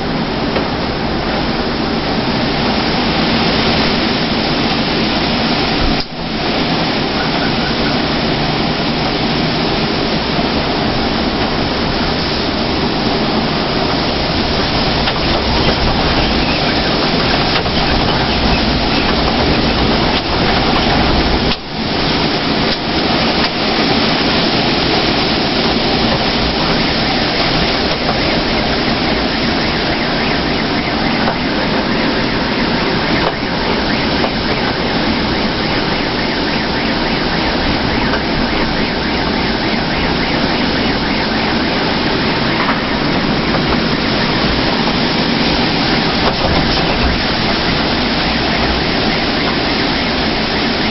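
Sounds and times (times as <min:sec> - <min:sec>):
strong wind rushing: 0:00.0 - 0:50.9.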